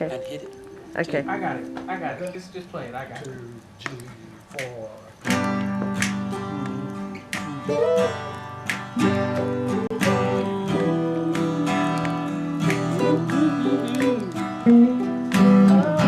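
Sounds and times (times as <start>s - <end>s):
acoustic guitar strumming: 0.0s - 2.7s, 5.2s - 16.0s.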